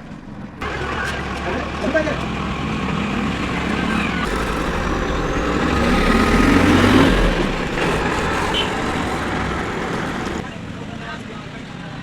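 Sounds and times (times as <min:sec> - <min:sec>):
road noise: 0:00.3 - 0:10.5
vehicle engine: 0:00.6 - 0:10.5.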